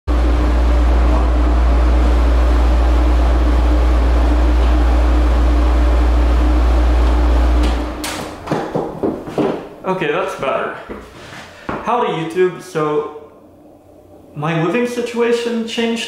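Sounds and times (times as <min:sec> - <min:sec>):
air conditioner humming: 0:00.1 - 0:16.0.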